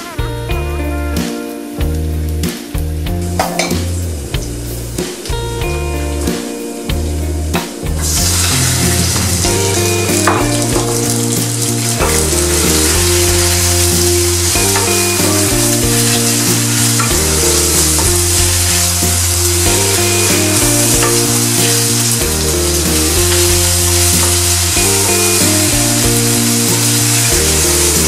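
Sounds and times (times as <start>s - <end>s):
background music: 0.0s - 28.0s
meat sizzling in a pan: 0.0s - 28.0s.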